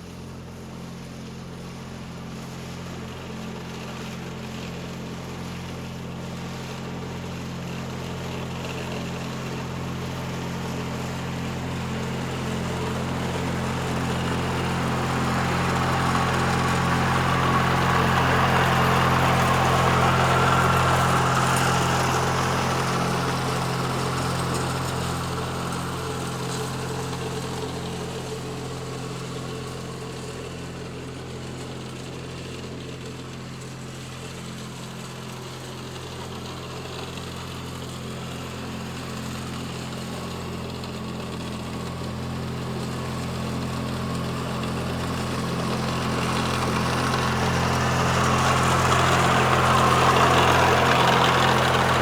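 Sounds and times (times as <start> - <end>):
lawn mower engine running: 0.0 - 52.0.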